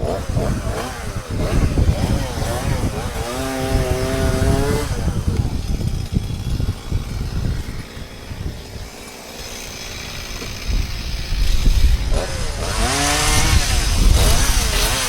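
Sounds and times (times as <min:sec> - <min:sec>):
chainsaw idling: 0:00.0 - 0:15.0.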